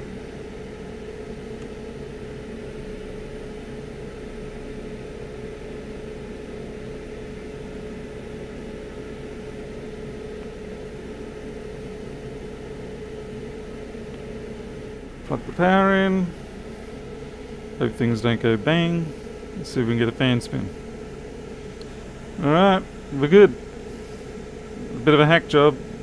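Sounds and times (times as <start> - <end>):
constant mid-pitched tone: 0.0 - 26.0.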